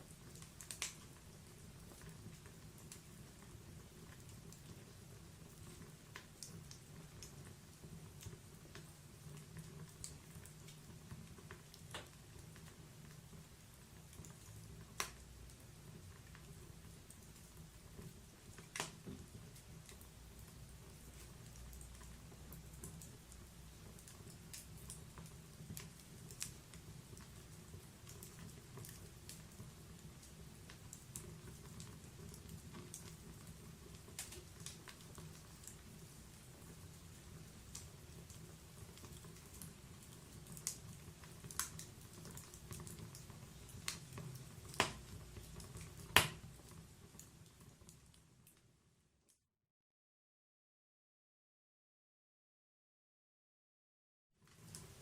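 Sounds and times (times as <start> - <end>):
wood fire crackling faintly: 0.0 - 49.5, 54.4 - 55.0.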